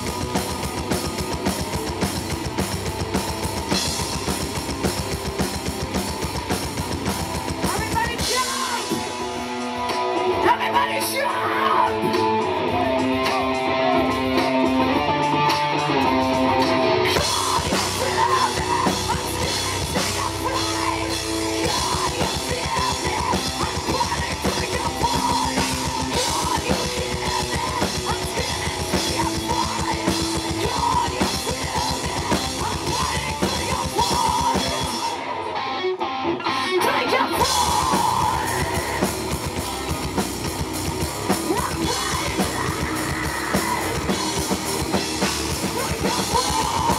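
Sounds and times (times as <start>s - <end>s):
drum kit: 0.0s - 35.4s, 37.0s - 46.9s
bass guitar: 0.0s - 46.9s
distorted electric guitars: 0.0s - 46.9s.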